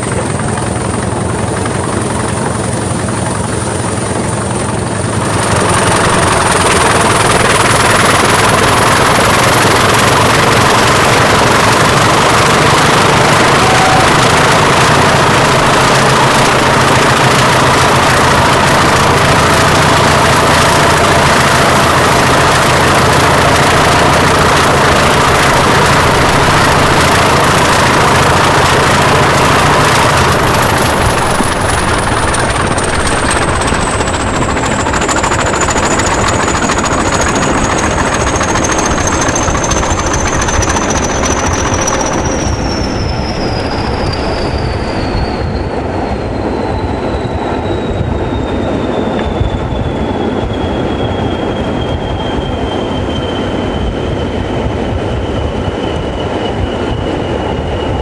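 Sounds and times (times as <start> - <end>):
diesel locomotive engines working hard: 0.0 - 58.0
high turbocharger whistle: 5.1 - 58.0.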